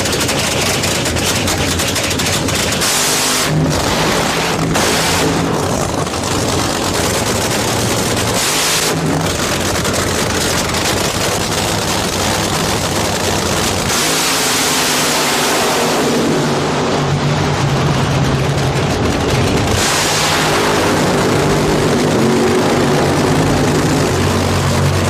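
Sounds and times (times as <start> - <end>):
racing car engines roaring: 0.0 - 25.0.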